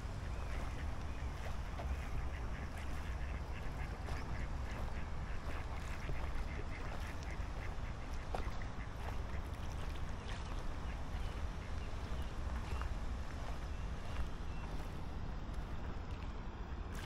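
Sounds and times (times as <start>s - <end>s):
ducks quacking: 0.3s - 14.9s.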